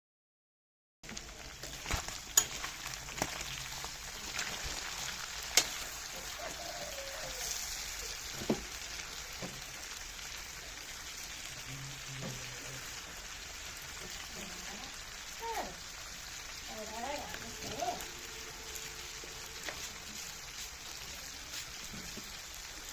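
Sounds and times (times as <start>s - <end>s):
food sizzling in oil: 1.0s - 22.9s.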